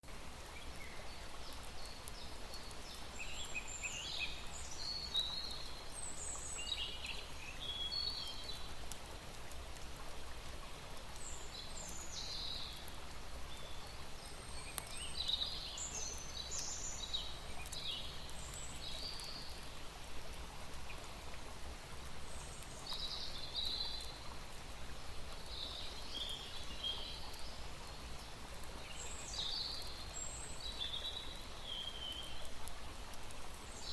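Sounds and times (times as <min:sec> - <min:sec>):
small birds chirping: 0:00.4 - 0:08.9, 0:11.1 - 0:21.2, 0:22.1 - 0:33.9.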